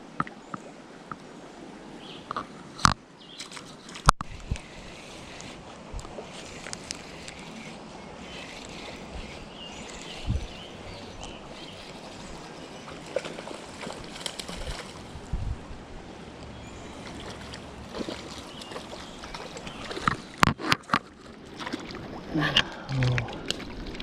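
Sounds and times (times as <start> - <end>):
river water rushing: 0.8 - 20.4.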